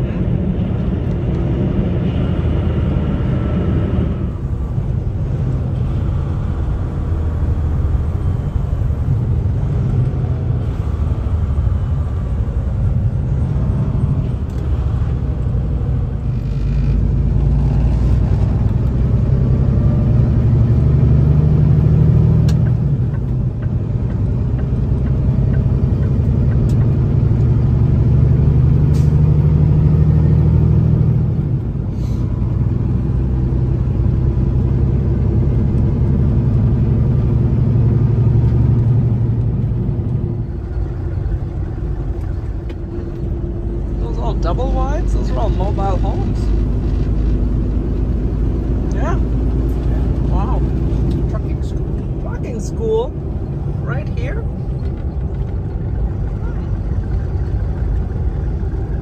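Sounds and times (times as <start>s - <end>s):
road noise: 0.0s - 59.0s
truck diesel engine drone: 0.0s - 59.0s.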